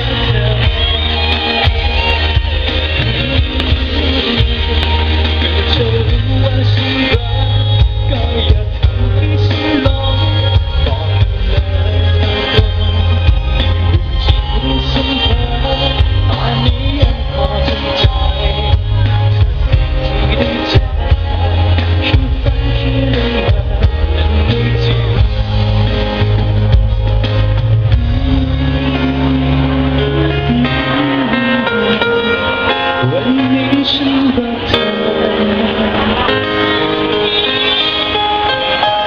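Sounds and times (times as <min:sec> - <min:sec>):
live rock band playing: 0:00.0 - 0:39.0
person singing: 0:00.0 - 0:39.0.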